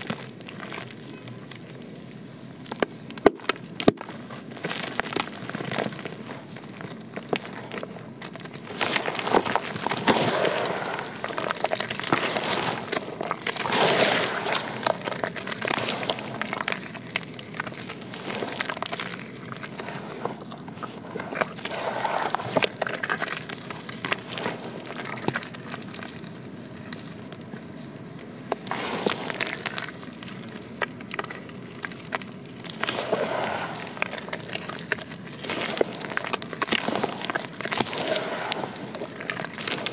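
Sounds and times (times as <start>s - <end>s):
wet squishing paste: 0.0s - 1.8s, 2.5s - 39.9s
dry dirt crackling in water: 0.0s - 39.9s.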